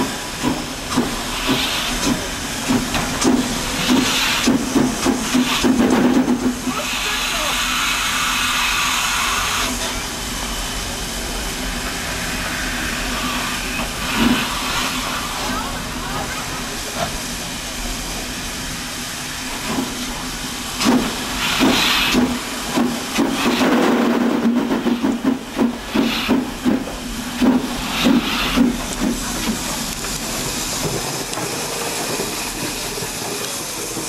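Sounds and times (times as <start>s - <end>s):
steam hissing: 0.0s - 34.0s
steam locomotive exhaust chuffs: 0.0s - 34.0s.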